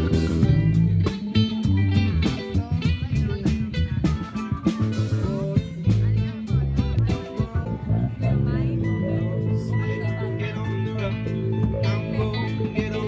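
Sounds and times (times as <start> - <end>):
guitar-led music with beat: 0.0 - 13.0.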